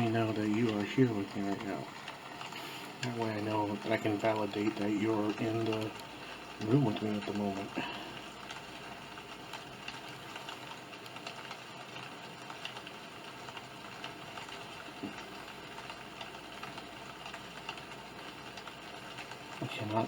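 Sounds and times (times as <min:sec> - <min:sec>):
scattered clicks and crackles: 0:00.0 - 0:20.0
steady noise hiss: 0:00.0 - 0:20.0.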